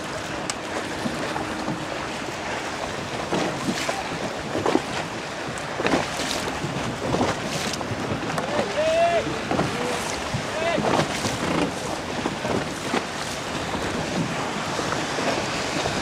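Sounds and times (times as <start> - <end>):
water splashing: 0.0 - 16.0
wind buffeting microphone: 0.0 - 16.0.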